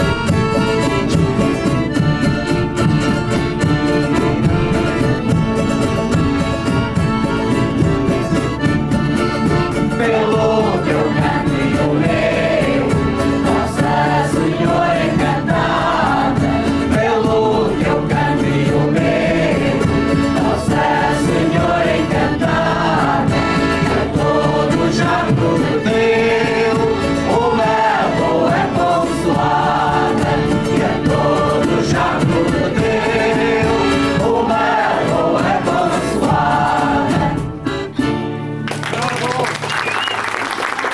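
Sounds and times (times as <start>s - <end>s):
group singing with accompaniment: 0.0s - 38.3s.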